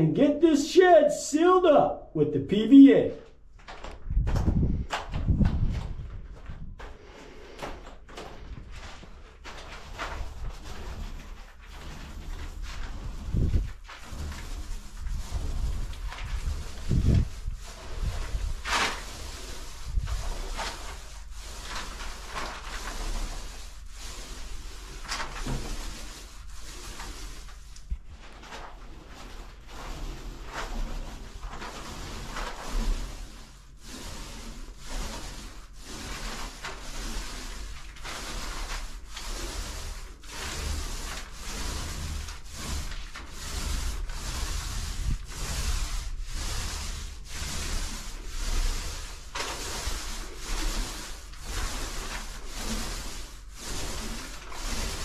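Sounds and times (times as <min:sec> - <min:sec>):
paint roller swishing on ceiling: 0:00.0 - 0:55.0.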